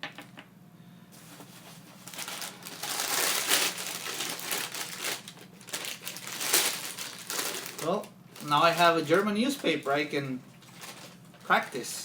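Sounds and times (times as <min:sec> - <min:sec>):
newspaper crinkling: 0:01.2 - 0:11.9.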